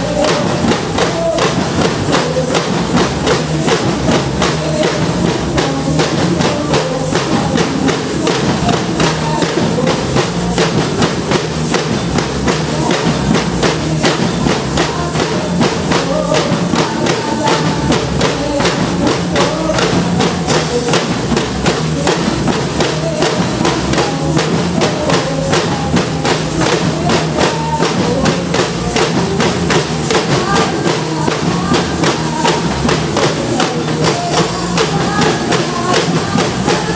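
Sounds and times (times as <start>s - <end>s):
percussion band drumming: 0.0s - 36.9s.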